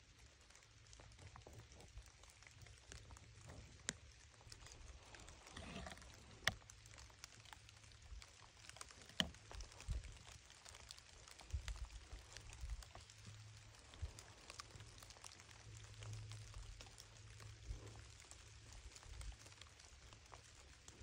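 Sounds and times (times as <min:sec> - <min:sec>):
dry leaves crackling and rustling: 0:00.0 - 0:21.0.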